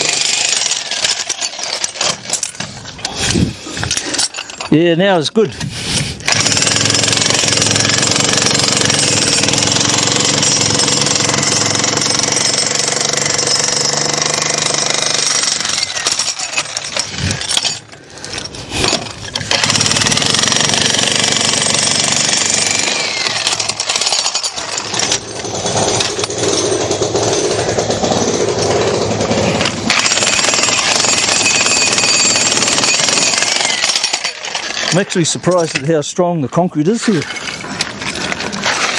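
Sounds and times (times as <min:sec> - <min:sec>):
jackhammer breaking concrete: 0:00.0 - 0:02.6, 0:06.2 - 0:35.8, 0:37.0 - 0:38.9.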